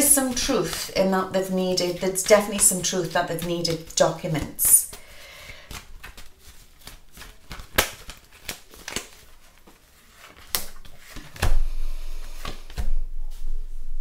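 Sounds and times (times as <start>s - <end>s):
cards being handled: 0.2s - 11.5s.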